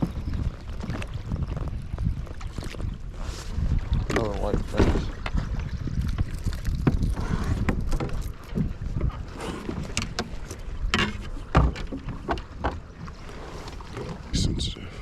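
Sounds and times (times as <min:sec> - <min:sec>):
knocks and clatter in kayak: 0:00.0 - 0:14.7
wind rumble on microphone: 0:00.0 - 0:15.0.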